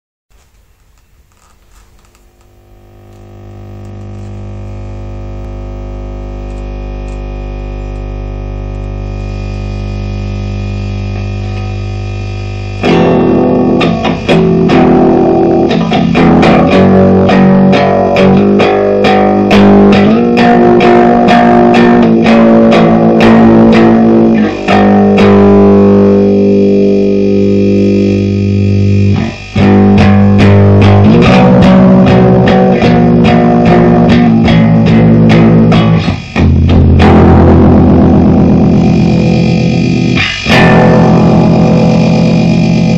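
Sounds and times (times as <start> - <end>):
distorted electric guitar riff: 0.3 - 42.9.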